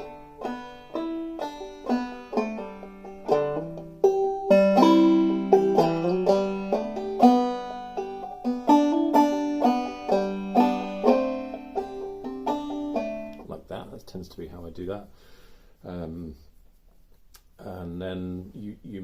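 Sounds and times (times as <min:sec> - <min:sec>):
banjo played slowly: 0:00.0 - 0:16.5.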